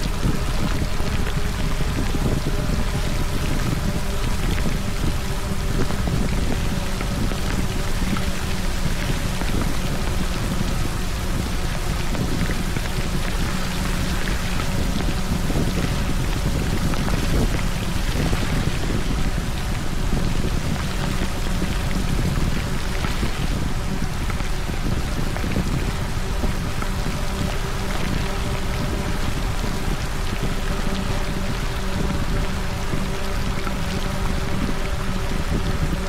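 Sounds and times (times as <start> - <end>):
rain spattering on camera: 0.0 - 36.0.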